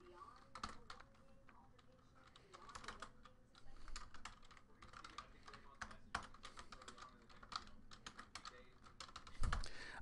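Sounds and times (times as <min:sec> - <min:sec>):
typing on keyboard: 0:00.2 - 0:09.7.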